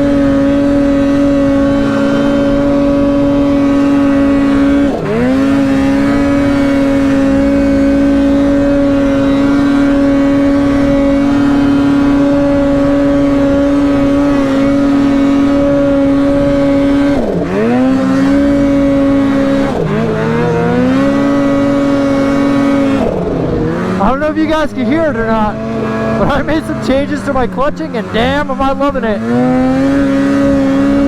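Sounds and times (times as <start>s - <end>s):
snowmobile engine at high revs: 0.0s - 31.0s.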